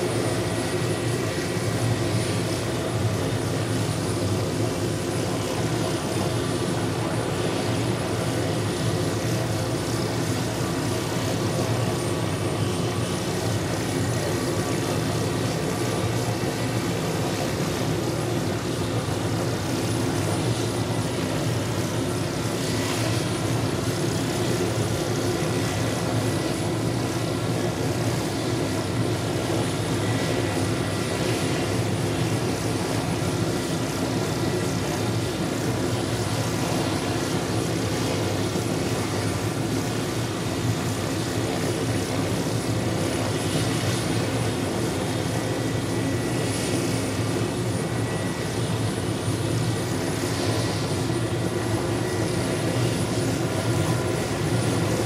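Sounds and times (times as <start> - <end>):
helicopter rotor and engine noise: 0.0 - 55.0
helicopter turbine whine: 0.0 - 55.0.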